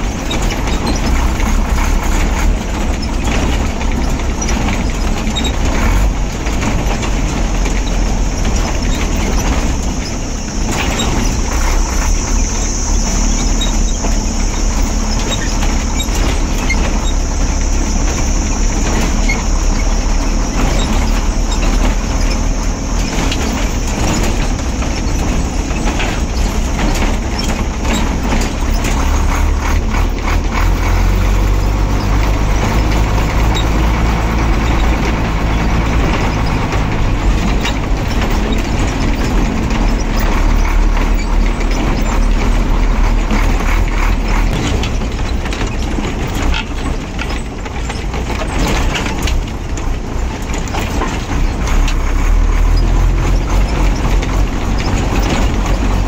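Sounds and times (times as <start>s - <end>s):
rattles and clicks in cab: 0.0s - 56.0s
truck diesel engine running: 0.0s - 56.0s.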